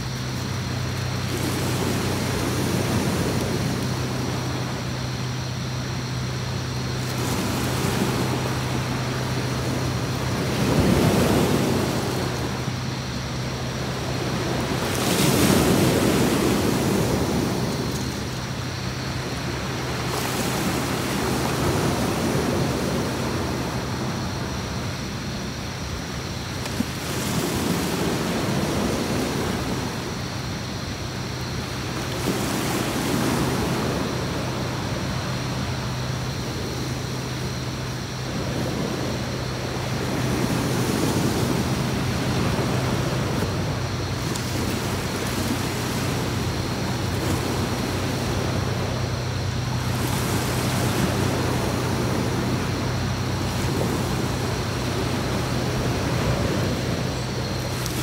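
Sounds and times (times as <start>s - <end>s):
sea waves washing onto beach: 0.0s - 58.0s
steady low hum: 0.0s - 58.0s.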